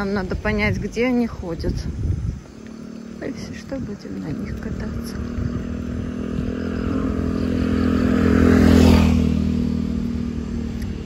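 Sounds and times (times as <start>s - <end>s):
vehicle engine passing by: 1.3s - 11.0s.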